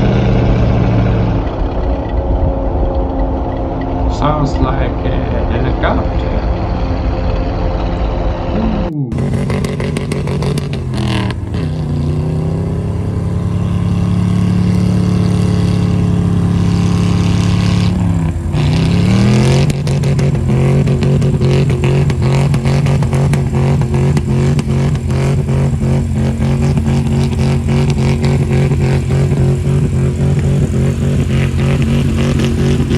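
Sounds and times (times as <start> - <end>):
truck engine through loud exhaust: 0.0 - 32.9.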